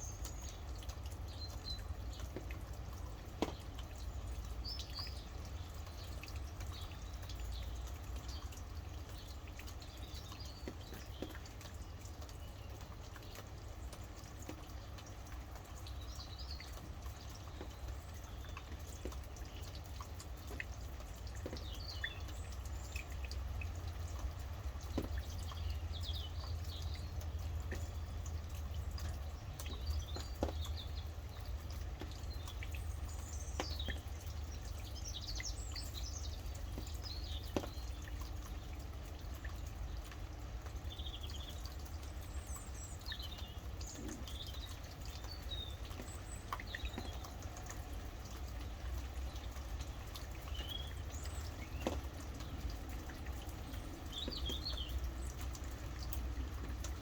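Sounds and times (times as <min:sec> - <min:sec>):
birds chirping: 0:00.0 - 0:57.0
rain dripping: 0:00.0 - 0:57.0.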